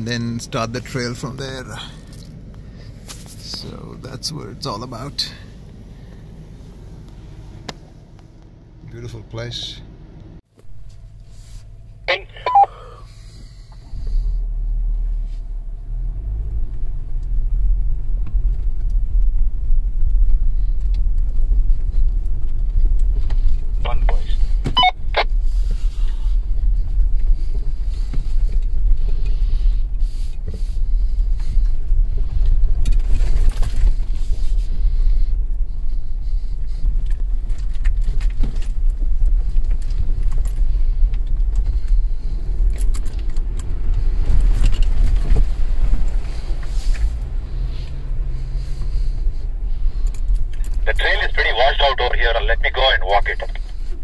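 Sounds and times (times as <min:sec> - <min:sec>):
vehicle engine low rumble: 0:00.0 - 0:54.0.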